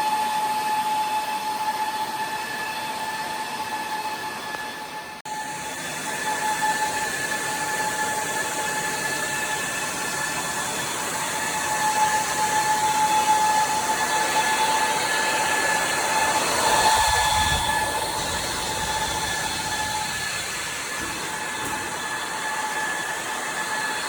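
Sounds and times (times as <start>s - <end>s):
cooling fans whooshing: 0.0s - 24.0s.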